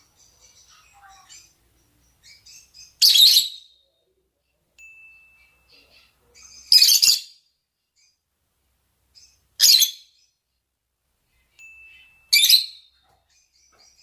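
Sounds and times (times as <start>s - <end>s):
faint bird chirps: 0.0s - 8.4s, 9.0s - 10.6s, 11.2s - 14.0s.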